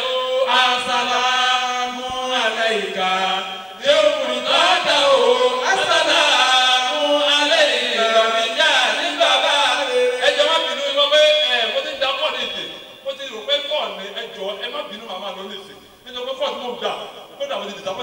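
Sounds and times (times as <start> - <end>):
men chanting into microphones: 0.0 - 15.0.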